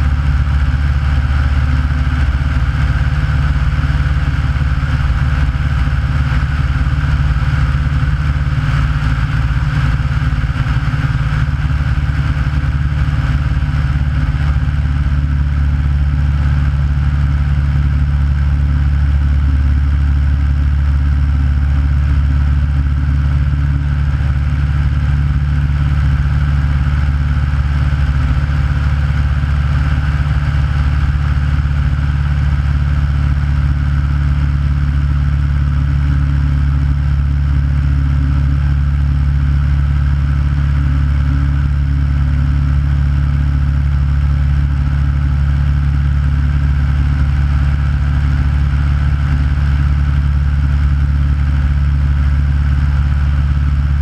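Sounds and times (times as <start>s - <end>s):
light airplane engine drone: 0.0s - 54.0s.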